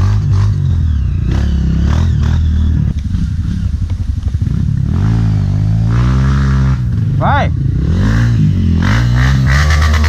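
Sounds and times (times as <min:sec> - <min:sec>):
trail bike engine revving: 0:00.0 - 0:10.0.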